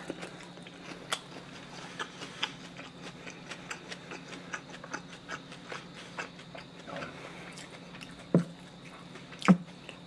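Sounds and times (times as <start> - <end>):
close chewing with mouth clicks: 0.0 - 10.0
steady low hum: 0.0 - 10.0.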